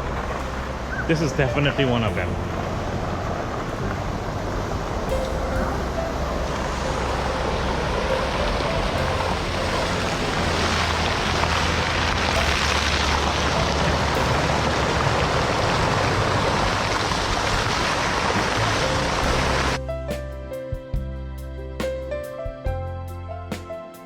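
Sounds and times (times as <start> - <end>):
tyres hissing on wet pavement: 0.0 - 19.8
low road rumble: 0.0 - 23.5.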